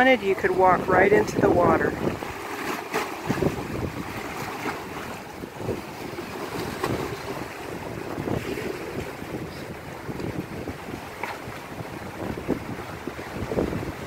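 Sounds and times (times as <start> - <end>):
waves splashing against steps: 0.0 - 14.0
wind buffeting microphone: 0.0 - 14.0.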